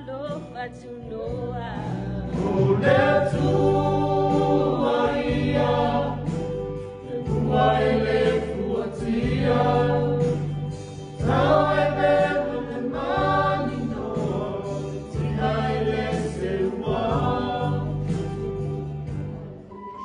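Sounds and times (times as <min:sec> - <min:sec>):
low accompaniment: 0:00.0 - 0:20.0
choir singing slow song: 0:02.2 - 0:19.3.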